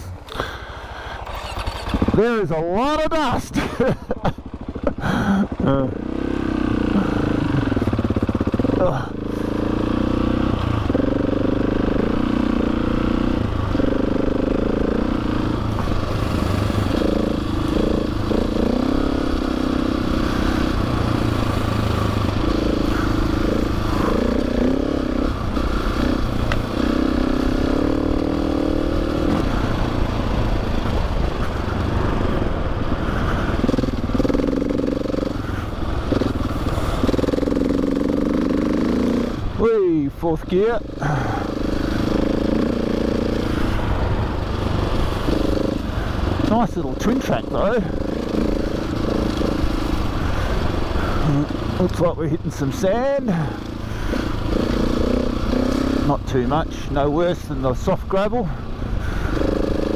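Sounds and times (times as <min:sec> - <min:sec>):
motorcycle engine revving: 0:00.0 - 0:59.9
wind: 0:00.0 - 0:59.9.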